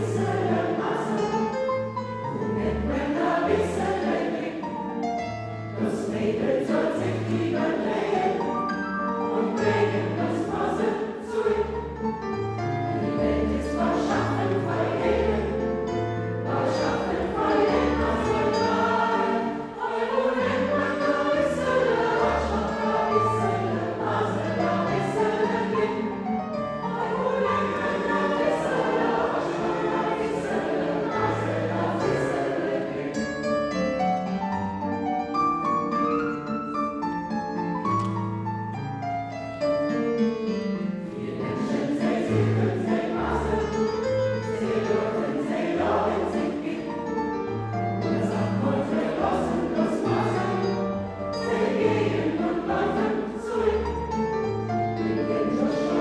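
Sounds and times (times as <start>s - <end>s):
choir singing: 0.0s - 34.4s, 40.8s - 56.0s.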